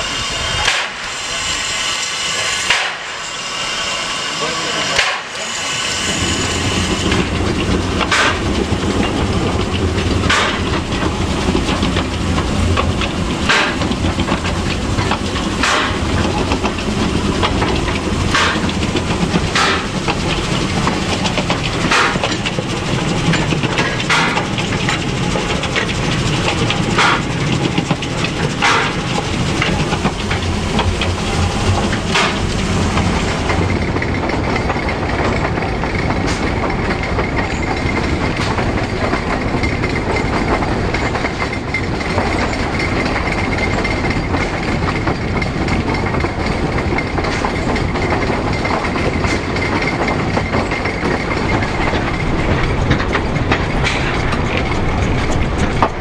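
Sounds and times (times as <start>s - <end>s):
steam train rumble and hiss: 0.0s - 56.0s.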